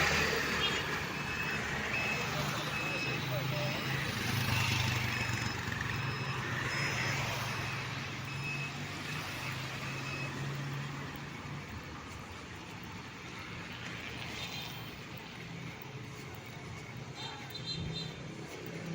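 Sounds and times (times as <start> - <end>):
traffic noise: 0.0 - 18.9
vehicle engine humming: 0.0 - 18.9.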